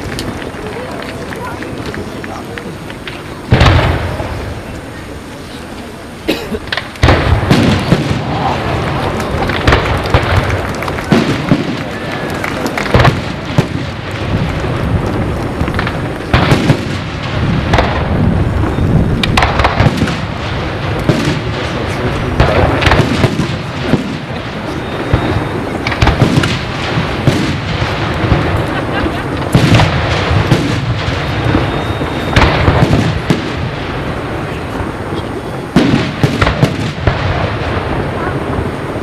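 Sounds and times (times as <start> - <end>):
fireworks crackling: 0.0 - 39.0
firework shells bursting: 6.6 - 39.0.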